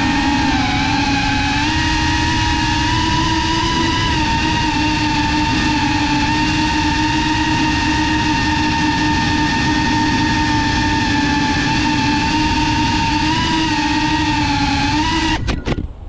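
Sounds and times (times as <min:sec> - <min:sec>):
drone motors whining: 0:00.0 - 0:15.8
steady rushing noise: 0:00.0 - 0:16.0.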